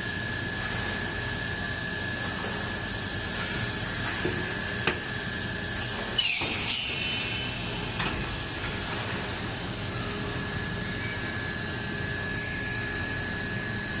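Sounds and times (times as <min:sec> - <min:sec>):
high mechanical whine: 0:00.0 - 0:14.0
machinery humming and hissing: 0:00.0 - 0:14.0.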